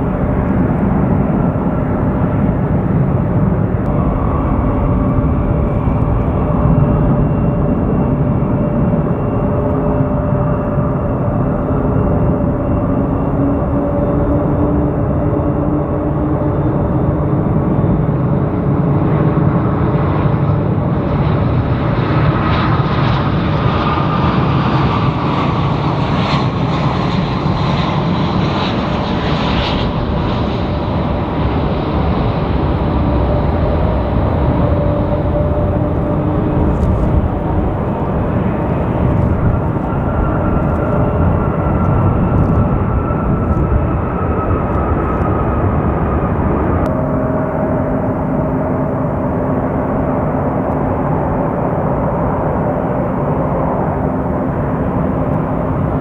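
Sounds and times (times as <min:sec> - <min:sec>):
jet engine rumble: 0:00.0 - 0:56.0
jet fan whine: 0:00.0 - 0:56.0.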